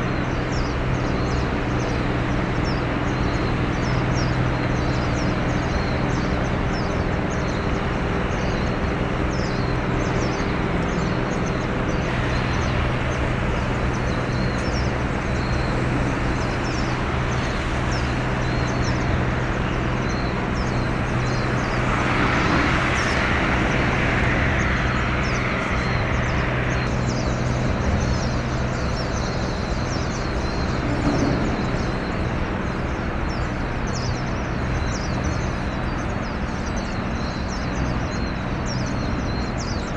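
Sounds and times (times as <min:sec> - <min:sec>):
low engine drone: 0:00.0 - 0:39.9
small birds chirping: 0:00.0 - 0:39.9
loud rush of noise: 0:00.9 - 0:38.1.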